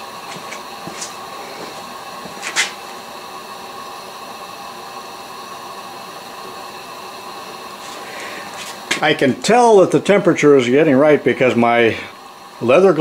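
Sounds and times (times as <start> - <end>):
hissing whir of shop equipment: 0.0 - 13.0.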